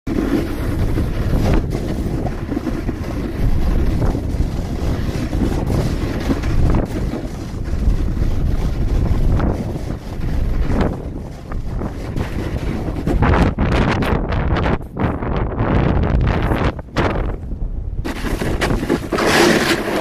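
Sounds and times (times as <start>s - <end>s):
snowboard running over snow: 0.1s - 17.4s, 18.0s - 20.0s
wind buffeting microphone: 0.1s - 20.0s.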